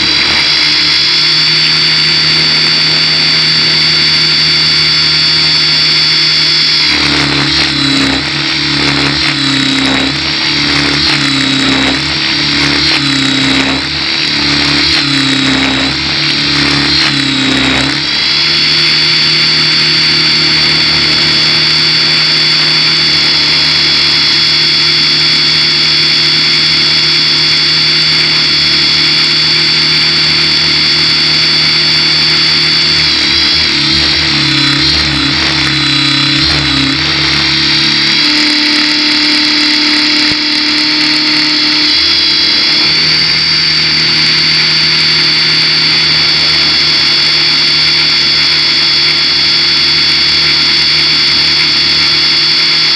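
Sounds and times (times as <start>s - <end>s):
rc helicopter drive whine and rotor: 0.0s - 52.9s.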